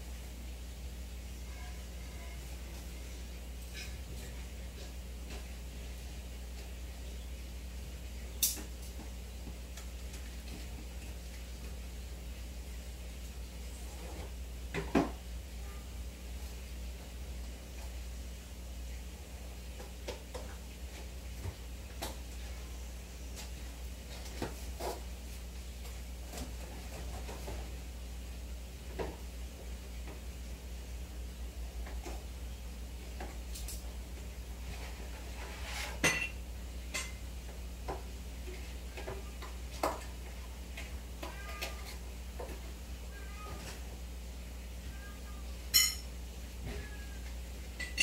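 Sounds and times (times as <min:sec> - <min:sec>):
air pump and filter hum: 0:00.0 - 0:48.0.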